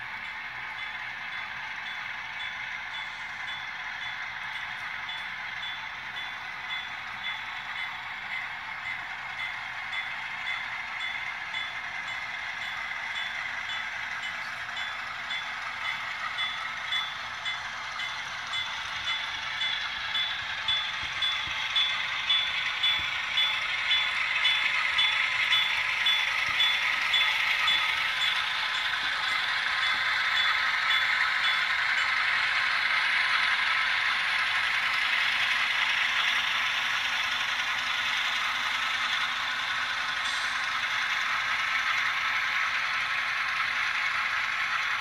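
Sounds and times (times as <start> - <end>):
model diesel engine sound: 0.0 - 45.0.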